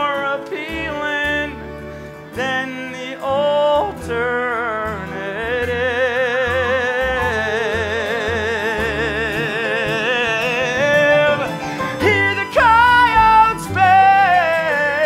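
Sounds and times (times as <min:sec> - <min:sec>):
band accompaniment: 0:00.0 - 0:15.0
man singing with vibrato: 0:00.0 - 0:15.0
bass notes pulsing: 0:00.7 - 0:15.0.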